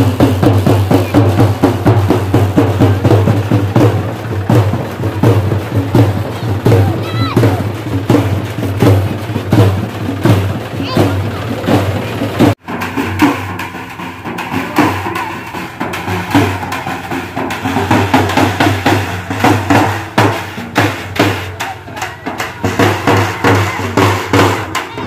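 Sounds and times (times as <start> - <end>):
frame drums beaten with sticks: 0.0 - 25.0.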